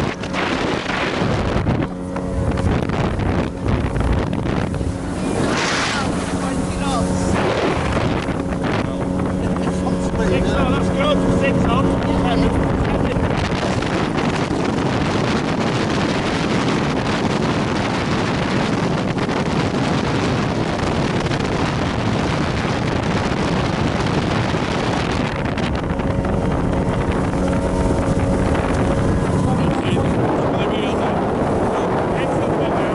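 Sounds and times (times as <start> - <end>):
wind on microphone: 0.0 - 32.9.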